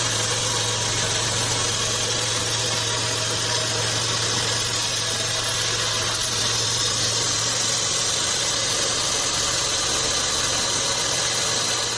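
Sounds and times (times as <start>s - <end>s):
bandsaw sawmill running: 0.0s - 11.9s.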